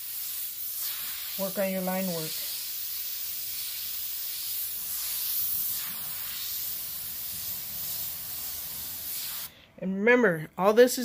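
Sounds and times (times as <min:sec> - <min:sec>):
airbrush hissing: 0:00.0 - 0:09.6.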